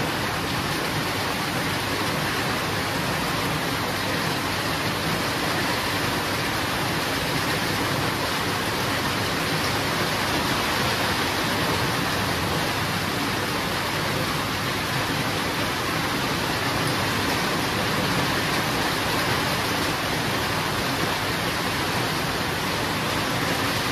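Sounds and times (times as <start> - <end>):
heavy rain falling: 0.0 - 23.9.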